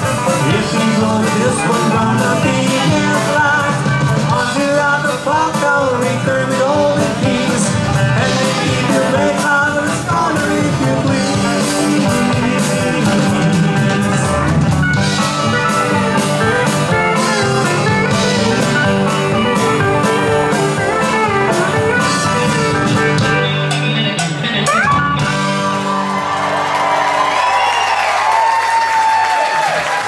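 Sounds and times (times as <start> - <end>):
electric guitars: 0.0 - 28.0
drums: 0.0 - 30.0.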